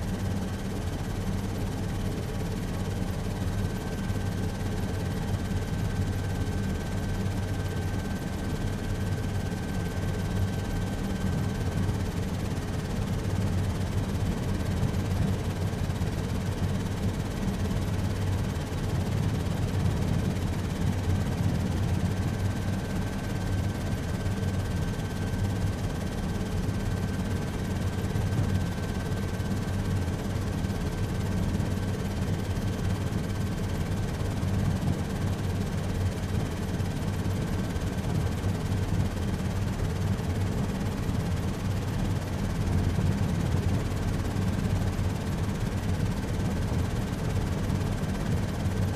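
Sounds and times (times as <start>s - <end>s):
helicopter drone: 0.0s - 48.9s.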